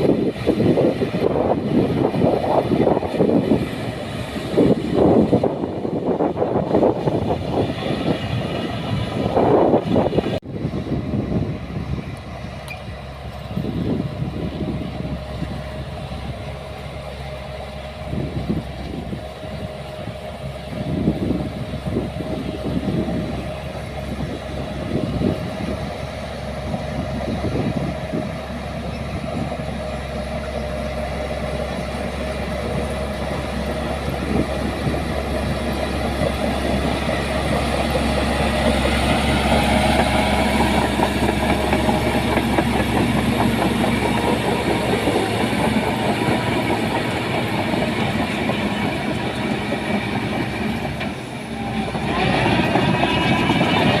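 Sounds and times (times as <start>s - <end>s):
bulldozer diesel engine running: 0.0s - 54.0s
steel tracks clanking: 0.0s - 54.0s.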